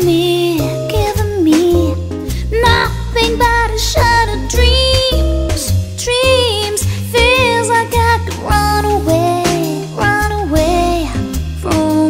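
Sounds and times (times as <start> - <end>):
pop song with singing: 0.0 - 12.0.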